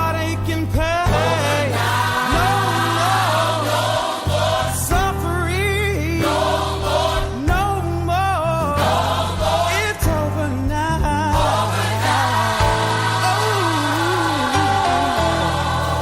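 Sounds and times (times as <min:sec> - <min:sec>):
bass line: 0:00.0 - 0:16.0
choir singing gospel song: 0:00.0 - 0:16.0.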